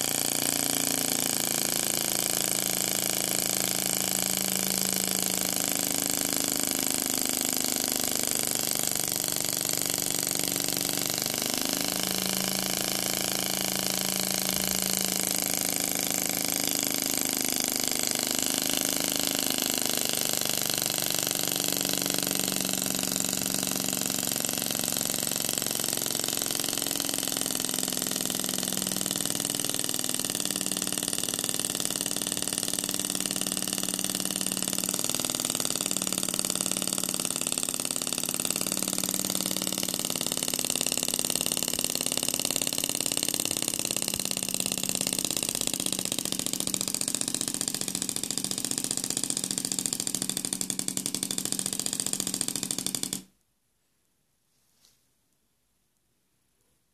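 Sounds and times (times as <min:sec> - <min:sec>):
model aircraft engine humming: 0:00.0 - 0:53.2.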